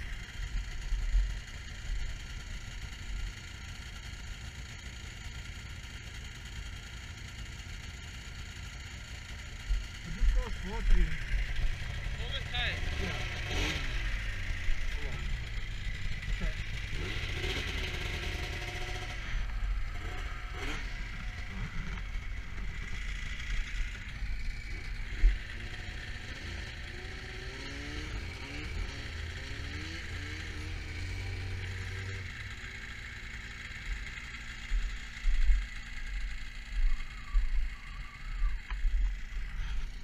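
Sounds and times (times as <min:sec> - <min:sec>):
snowmobile engine under load: 0:00.0 - 0:40.0.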